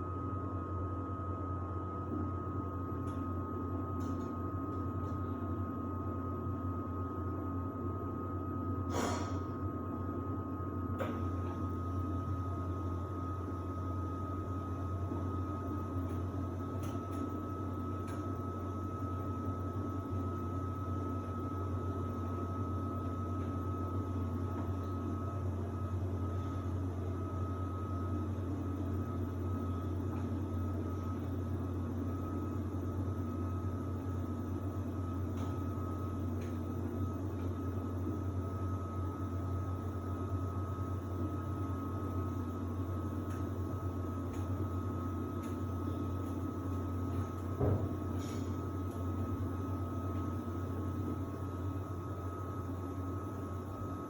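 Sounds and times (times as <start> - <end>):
washer-dryer humming: 0.0 - 54.0.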